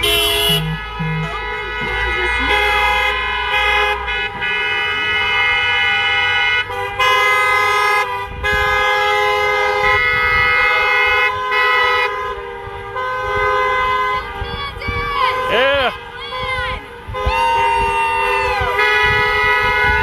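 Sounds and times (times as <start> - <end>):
car horns honking: 0.0 - 20.0.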